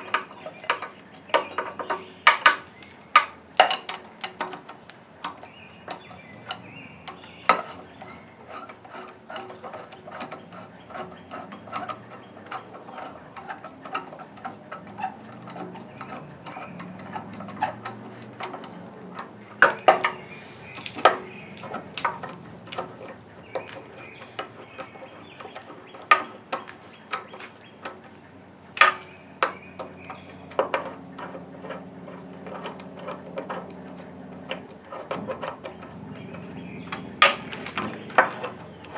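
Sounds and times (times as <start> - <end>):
clinks and knocks of hand tools: 0.0 - 38.9.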